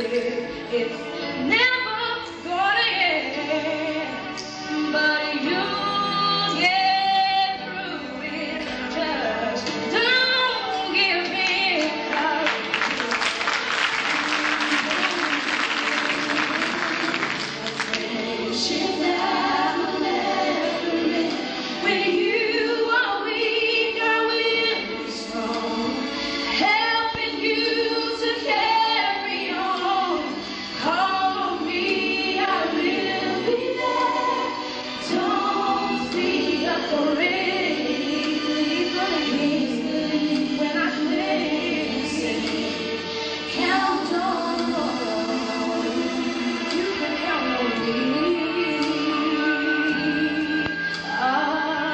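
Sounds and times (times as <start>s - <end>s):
choir singing gospel: 2.6s - 51.9s.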